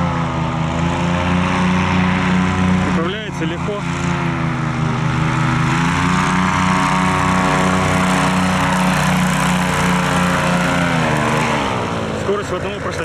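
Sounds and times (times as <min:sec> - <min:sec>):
airboat engine and propeller: 0:00.0 - 0:13.0.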